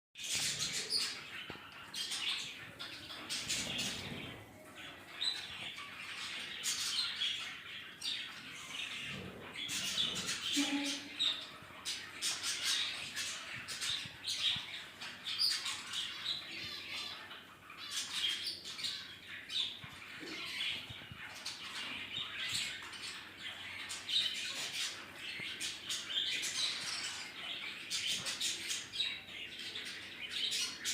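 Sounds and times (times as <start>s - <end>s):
birds chirping and squawking: 0.2s - 30.9s.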